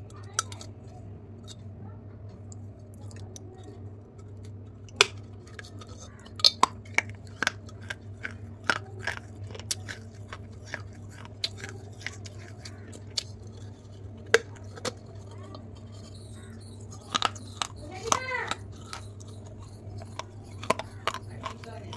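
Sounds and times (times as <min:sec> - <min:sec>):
steady low hum: 0:00.0 - 0:21.9
teeth crunching clay: 0:02.5 - 0:21.9.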